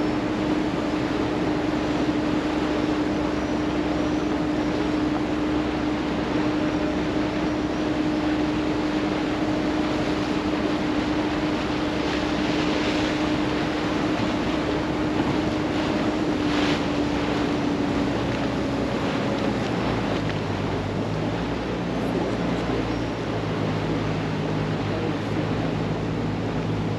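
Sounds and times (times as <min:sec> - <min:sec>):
boat engine droning: 0:00.0 - 0:26.9
water rushing along hull: 0:00.0 - 0:26.9
wind on microphone: 0:00.0 - 0:26.9.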